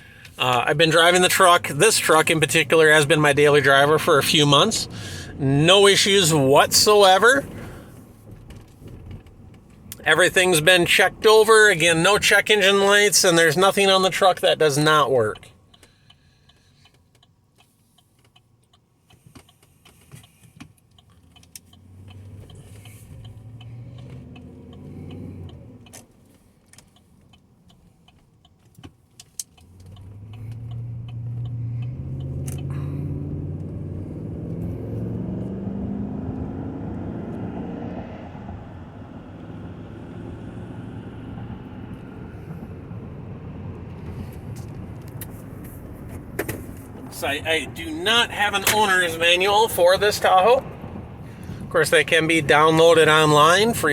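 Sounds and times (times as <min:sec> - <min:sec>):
truck engine accelerating: 0:00.0 - 0:15.5, 0:21.2 - 0:26.0, 0:29.6 - 0:53.9.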